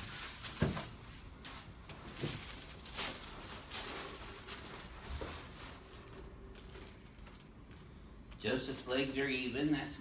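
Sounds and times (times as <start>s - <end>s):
soft rustling and shuffling: 0.0s - 8.5s.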